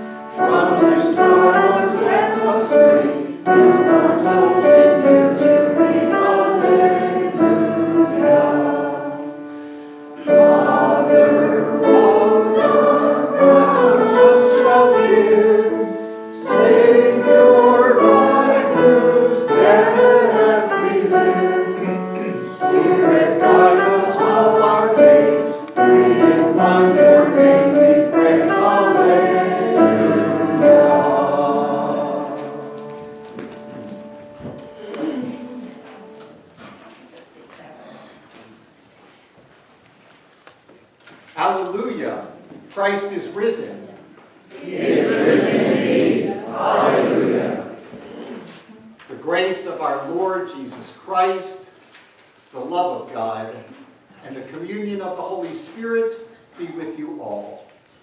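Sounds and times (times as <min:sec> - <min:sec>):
congregation singing a hymn: 0:00.0 - 0:37.0, 0:41.4 - 0:51.8.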